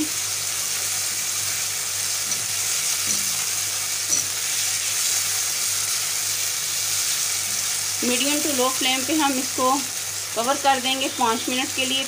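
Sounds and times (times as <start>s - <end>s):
food sizzling in oil in a wok: 0.0s - 12.0s.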